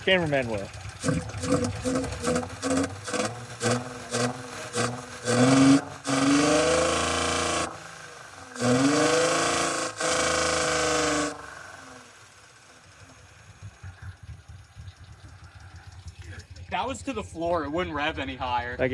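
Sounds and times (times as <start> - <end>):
misfiring car engine revving: 0.0 - 18.9.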